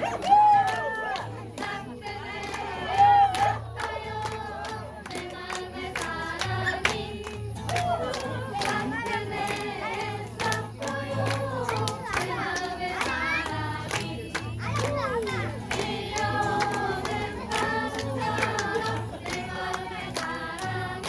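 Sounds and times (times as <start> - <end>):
people clapping: 0.0 - 21.0
children singing: 1.6 - 21.0.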